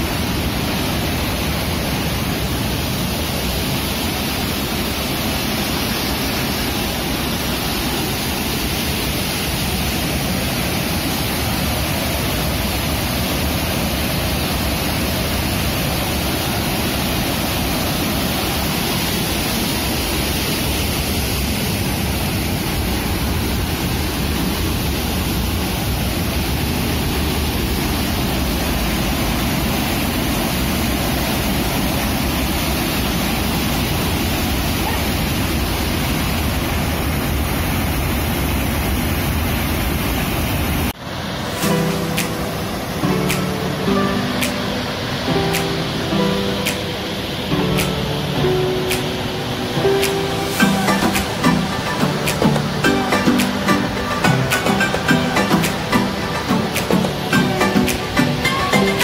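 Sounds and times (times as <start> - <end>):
water rushing through sluice gate: 0.0 - 59.0.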